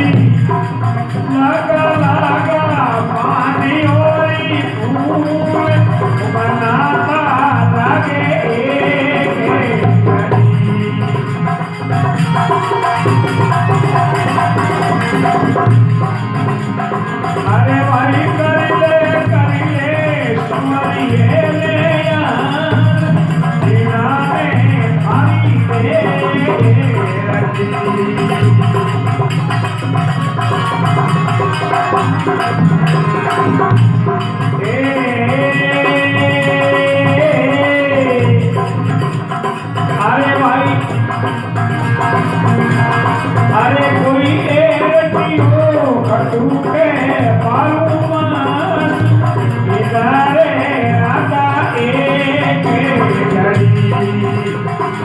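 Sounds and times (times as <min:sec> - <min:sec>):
hand percussion beat: 0:00.0 - 0:55.0.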